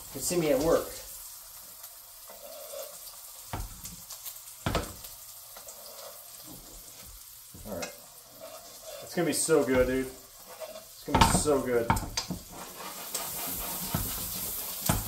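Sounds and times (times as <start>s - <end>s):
steak sizzling in butter: 0.0s - 15.0s.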